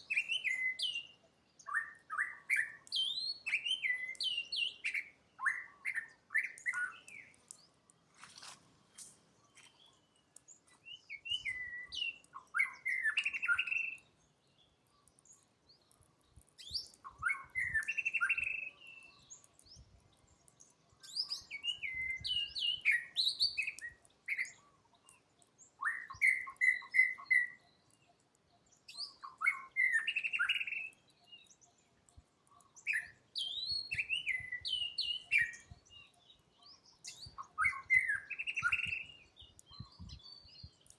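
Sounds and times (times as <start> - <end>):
high chirping calls: 0.0 - 7.7, 9.4 - 19.9, 20.5 - 31.8, 32.6 - 40.9.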